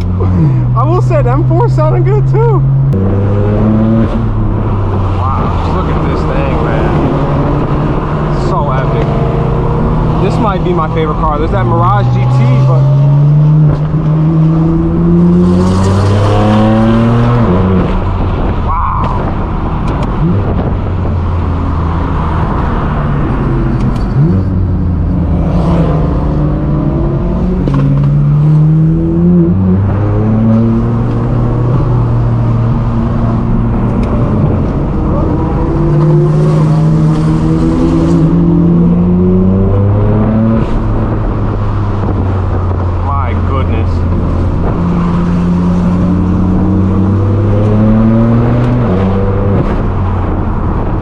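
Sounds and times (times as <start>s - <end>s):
car exhaust accelerating hard: 0.0s - 51.0s.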